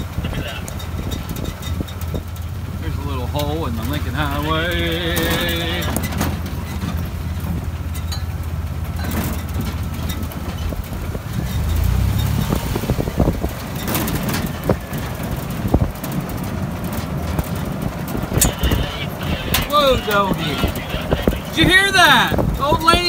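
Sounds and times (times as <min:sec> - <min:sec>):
sharp knocks and rattles: 0:00.0 - 0:20.8
jeep engine and road rumble: 0:00.0 - 0:23.0.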